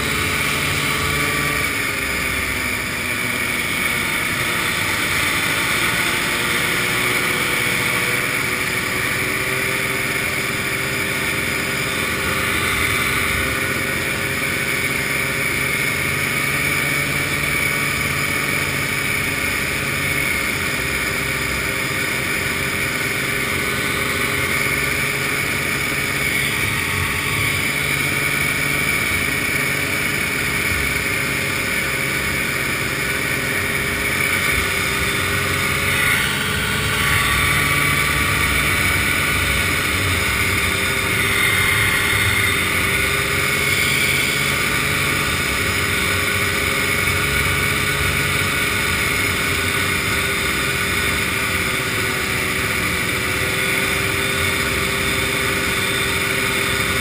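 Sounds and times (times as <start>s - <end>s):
snowmobile engine running: 0.0s - 57.0s
wind and road noise: 0.0s - 57.0s.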